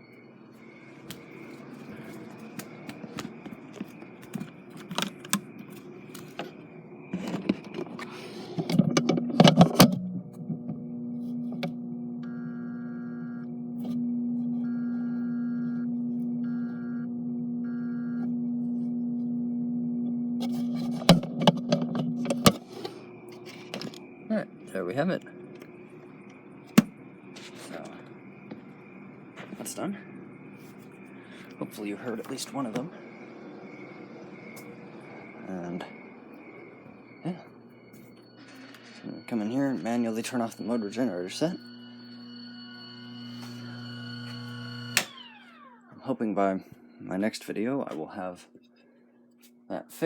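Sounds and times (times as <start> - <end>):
transformer humming: 0.0 - 46.4.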